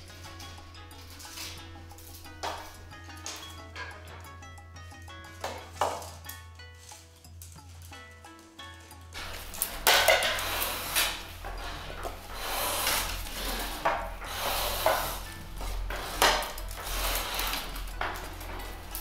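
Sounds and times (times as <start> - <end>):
bamboo strips rustling and scraping: 0.0 - 19.0.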